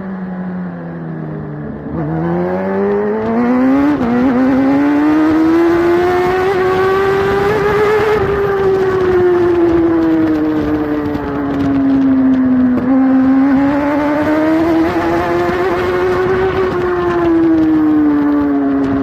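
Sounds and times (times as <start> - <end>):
motorcycle engine at racing speed: 0.0 - 19.0.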